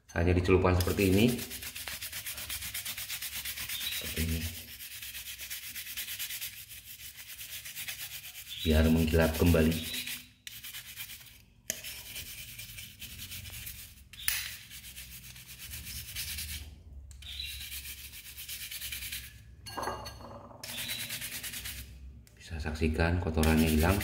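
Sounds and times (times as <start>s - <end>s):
wire brush scrubbing metal: 0.8s - 19.4s, 20.6s - 21.9s, 23.4s - 24.0s.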